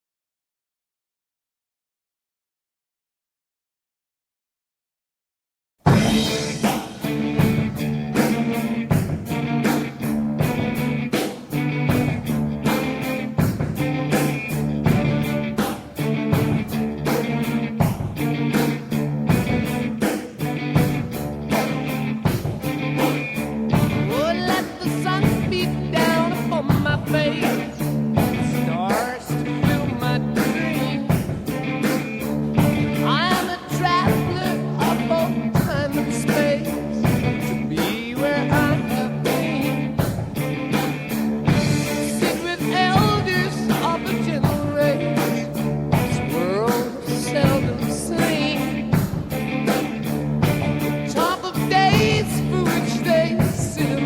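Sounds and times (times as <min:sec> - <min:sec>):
soundtrack music with beat: 0:05.9 - 0:54.0
sung melodic lines: 0:05.9 - 0:54.0.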